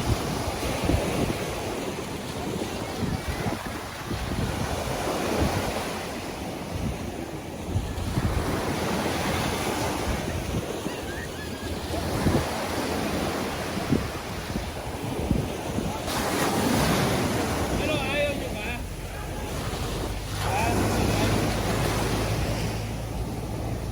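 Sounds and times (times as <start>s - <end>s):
ocean surf breaking on beach: 0.0s - 23.9s
wind buffeting microphone: 0.0s - 23.9s.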